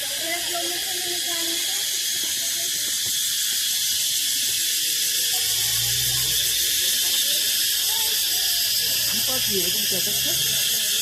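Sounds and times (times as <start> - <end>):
shrill chorus in trees: 0.0 - 11.0.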